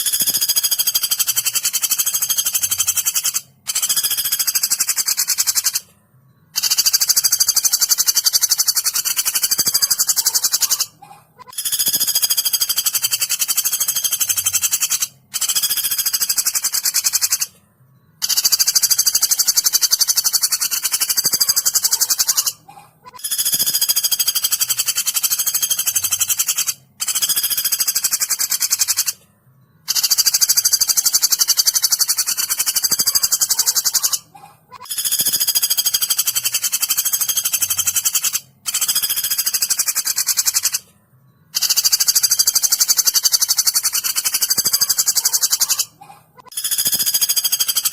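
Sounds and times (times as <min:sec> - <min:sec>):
woodpecker rattling calls: 0:00.0 - 0:05.9, 0:06.5 - 0:17.5, 0:18.2 - 0:29.2, 0:29.8 - 0:40.9, 0:41.5 - 0:47.9.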